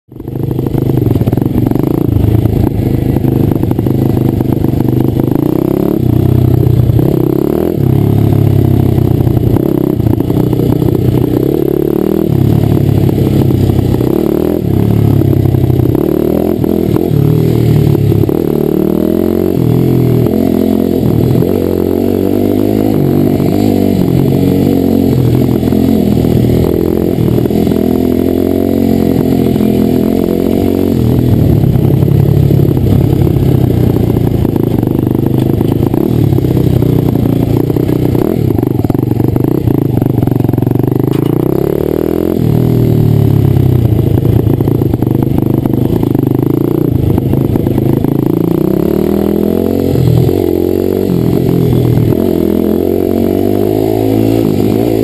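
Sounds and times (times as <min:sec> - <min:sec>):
motorbike engine revving: 0:00.1 - 0:55.0.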